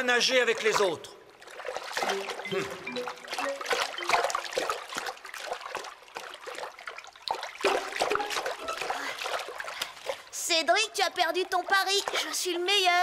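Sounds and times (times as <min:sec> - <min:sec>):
water splashing in pool: 0:00.0 - 0:13.0.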